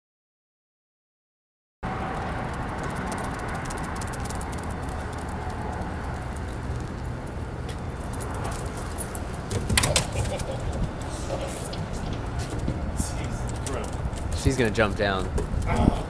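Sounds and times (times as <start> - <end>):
faint scattered clicks: 2.1 - 15.7.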